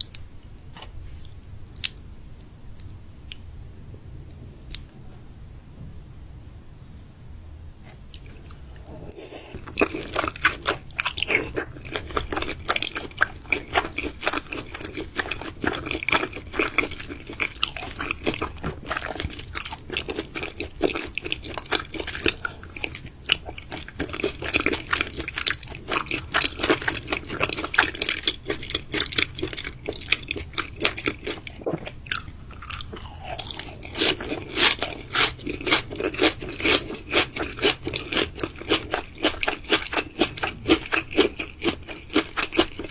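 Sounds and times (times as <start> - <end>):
person chewing raw meat: 8.2 - 42.9.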